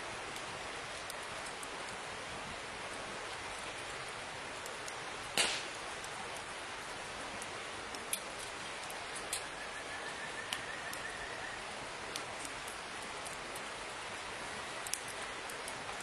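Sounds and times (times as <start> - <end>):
raindrops ticking close by: 0.0 - 16.0
steady rain: 0.0 - 16.0.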